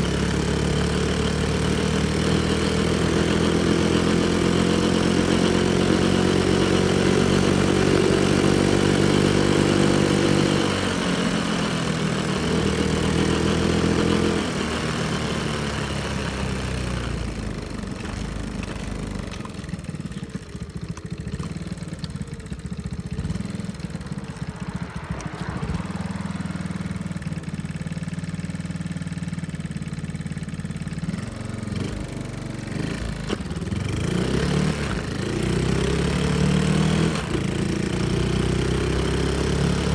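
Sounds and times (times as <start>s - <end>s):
motorbike engine revving and idling: 0.0s - 39.9s.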